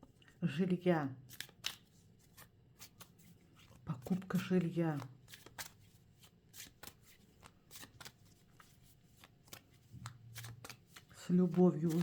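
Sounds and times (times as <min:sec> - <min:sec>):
cards shuffling: 0:01.3 - 0:12.0.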